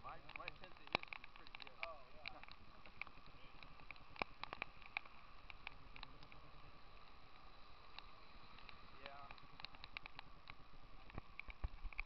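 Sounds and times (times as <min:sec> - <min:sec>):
light ticks: 0:00.0 - 0:12.0
wet street hiss: 0:00.0 - 0:12.0.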